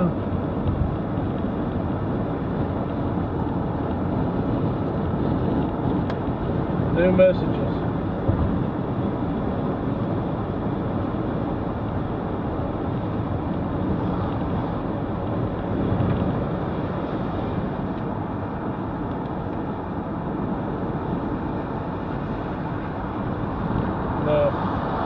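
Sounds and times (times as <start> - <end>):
car driving heard from inside: 0.0 - 25.0.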